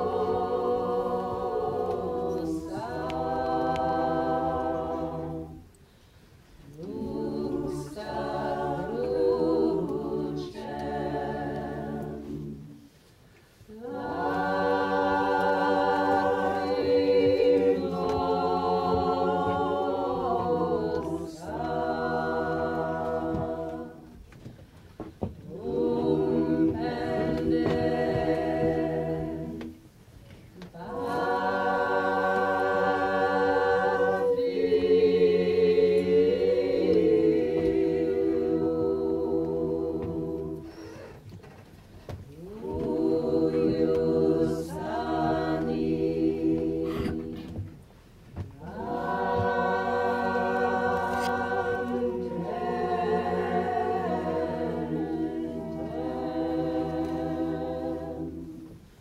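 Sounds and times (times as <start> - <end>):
choir singing unaccompanied: 0.0 - 5.8, 6.6 - 13.0, 13.7 - 30.0, 30.6 - 41.2, 42.1 - 59.0.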